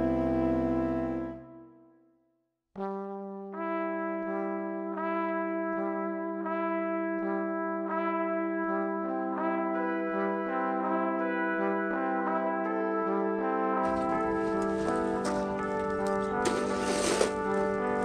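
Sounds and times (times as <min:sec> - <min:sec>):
brassy chord music: 0:00.0 - 0:01.8, 0:02.8 - 0:18.0.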